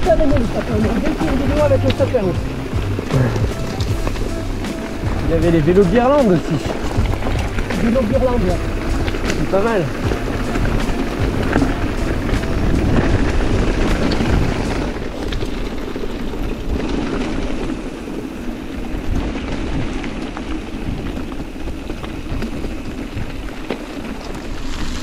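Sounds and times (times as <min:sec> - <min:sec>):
bike rattling and knocking: 0:00.0 - 0:25.0
bike tyres on dirt: 0:00.0 - 0:25.0
wind on microphone: 0:00.0 - 0:25.0.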